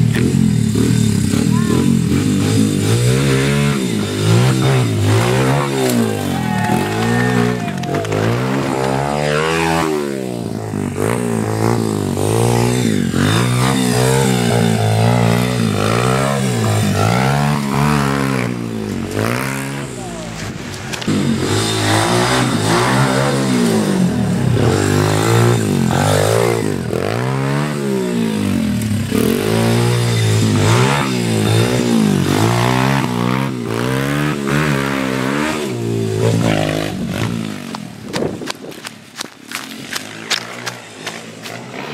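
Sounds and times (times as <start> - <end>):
small engine revving: 0.0 - 38.2.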